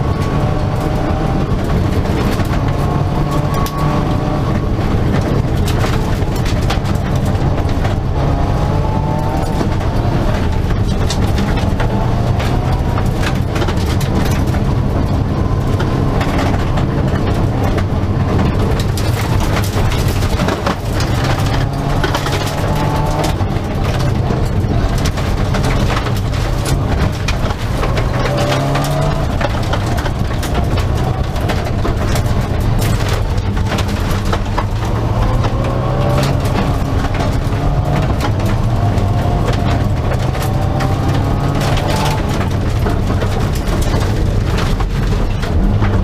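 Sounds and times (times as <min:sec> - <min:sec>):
gravel crunching under tyres: 0:00.0 - 0:46.0
rally car engine revving: 0:00.0 - 0:46.0.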